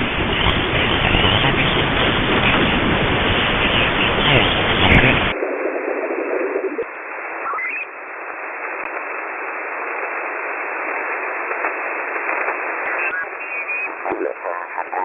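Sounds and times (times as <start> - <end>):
shortwave radio static: 0.0 - 15.0.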